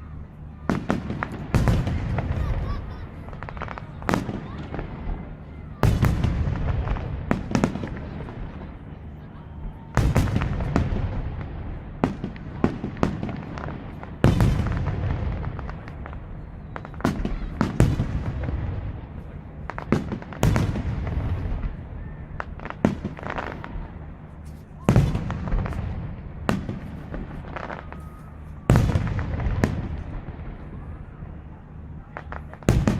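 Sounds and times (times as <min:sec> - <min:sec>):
firework booms rumbling: 0:00.6 - 0:32.9.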